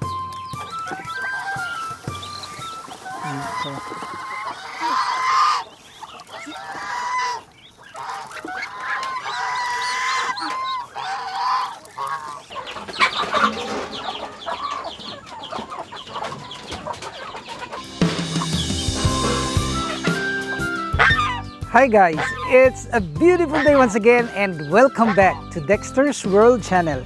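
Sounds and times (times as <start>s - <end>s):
chickens clucking: 0.0s - 27.0s
geese honking: 0.0s - 27.0s.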